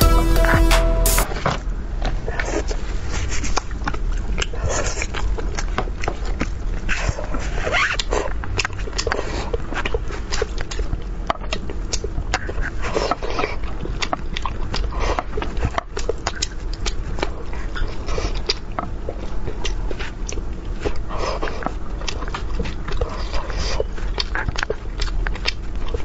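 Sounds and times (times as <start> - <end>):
person chewing and smacking lips: 2.0 - 26.0.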